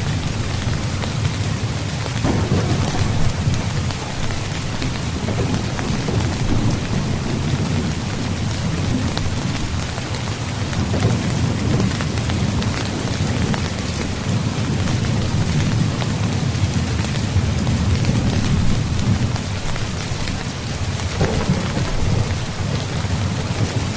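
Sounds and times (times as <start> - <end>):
rain on tent fabric: 0.0 - 23.9.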